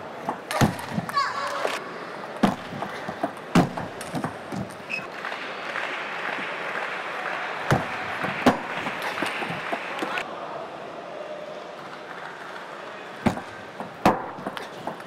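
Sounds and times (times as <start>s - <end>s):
arena crowd noise: 0.0s - 15.0s.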